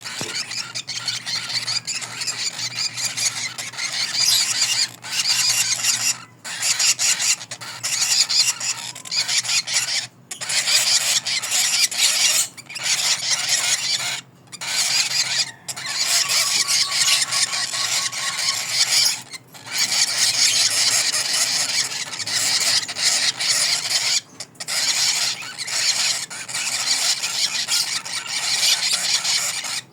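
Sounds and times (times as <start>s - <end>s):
lovebirds chattering and screeching: 0.0s - 29.9s.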